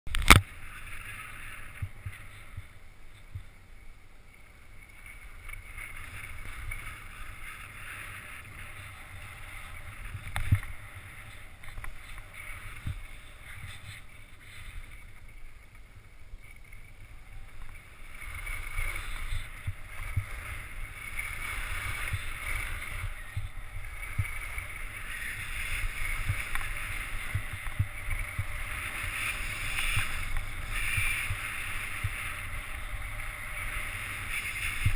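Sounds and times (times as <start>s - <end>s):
skis scraping over snow: 0.1s - 34.9s.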